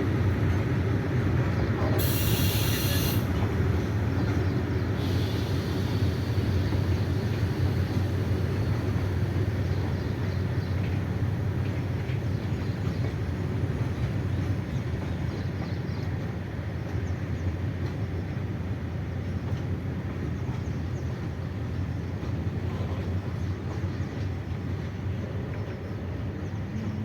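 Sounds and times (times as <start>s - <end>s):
train wagons rumbling past: 0.0s - 27.0s.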